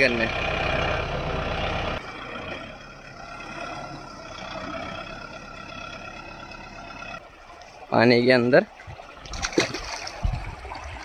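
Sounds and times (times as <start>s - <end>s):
tractor diesel engine running: 0.0s - 9.3s.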